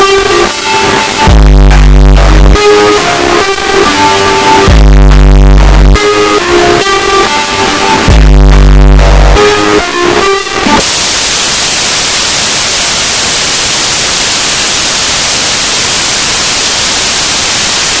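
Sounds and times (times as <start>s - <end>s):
loud electronic tones: 0.0s - 18.0s
loud steady static: 0.0s - 18.0s.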